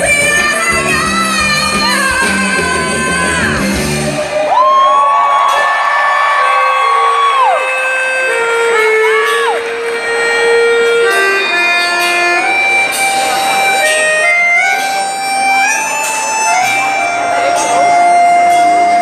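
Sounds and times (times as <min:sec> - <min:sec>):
accordion melody: 0:00.0 - 0:04.4, 0:06.1 - 0:19.0.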